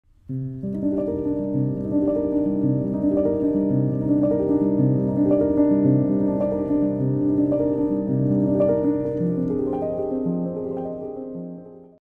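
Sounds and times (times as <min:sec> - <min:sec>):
piano intro music: 0:00.2 - 0:12.0.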